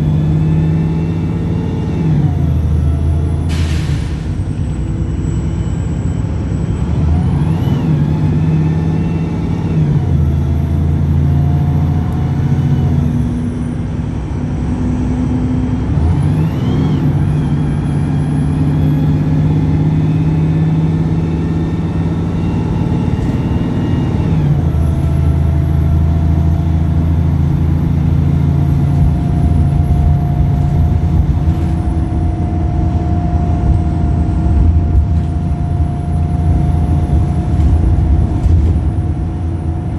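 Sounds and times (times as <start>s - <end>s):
bus diesel engine revving: 0.0s - 39.9s.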